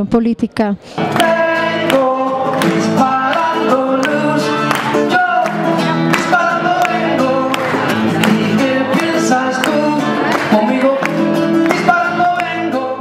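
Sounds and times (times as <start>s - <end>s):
person singing: 1.0s - 13.0s
plucked guitar: 1.0s - 13.0s.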